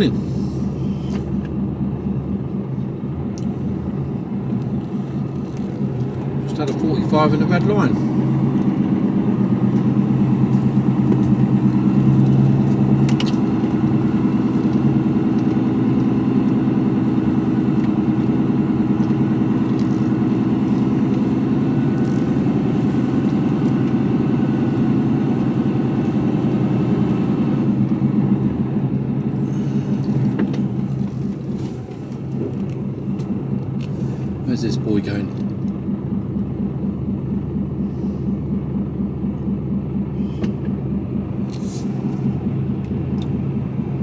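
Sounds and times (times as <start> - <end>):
diesel lorry engine running: 0.0 - 44.0.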